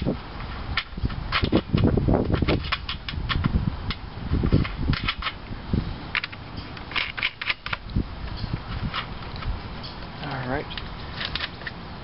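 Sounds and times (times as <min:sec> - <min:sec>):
small nuts clicking and rattling: 0:00.0 - 0:05.5, 0:06.1 - 0:11.8.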